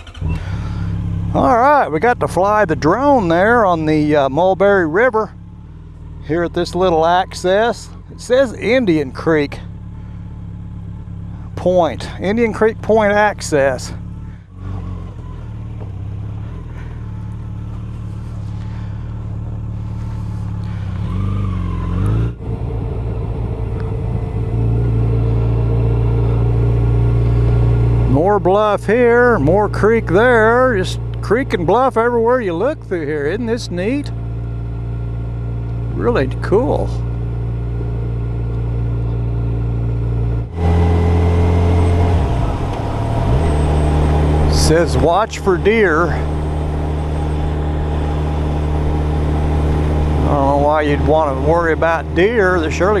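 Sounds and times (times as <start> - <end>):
motorcycle engine: 0.0 - 53.0
wind and road noise: 0.0 - 53.0.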